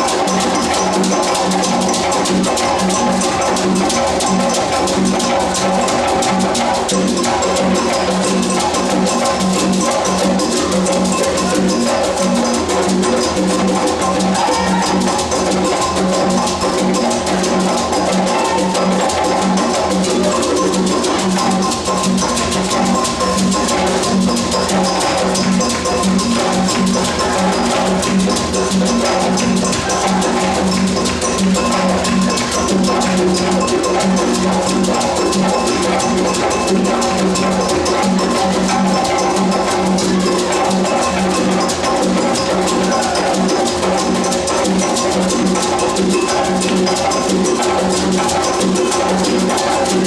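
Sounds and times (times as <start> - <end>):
fast drum percussion music: 0.0 - 50.0.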